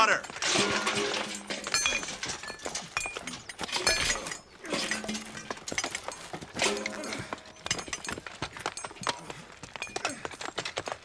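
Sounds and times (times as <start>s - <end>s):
iron chains clinking: 0.0s - 11.0s.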